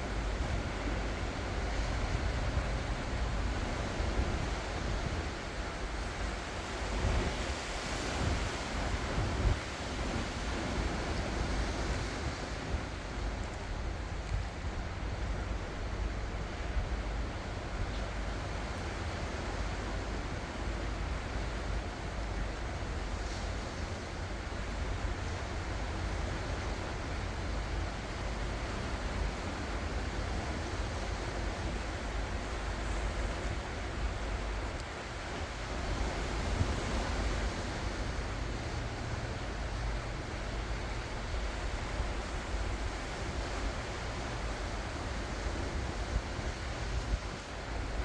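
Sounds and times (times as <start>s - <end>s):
ocean waves breaking: 0.0s - 48.0s
wind buffeting microphone: 0.0s - 48.0s.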